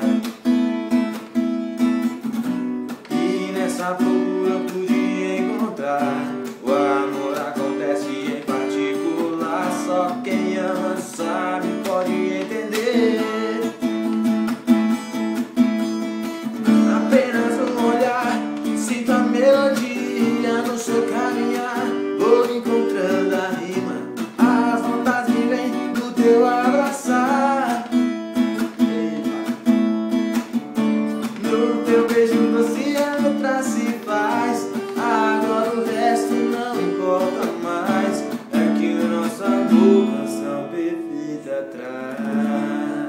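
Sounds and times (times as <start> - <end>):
young man singing: 0.0 - 0.5, 2.8 - 30.0, 30.8 - 43.0
acoustic guitar strumming: 0.0 - 43.0.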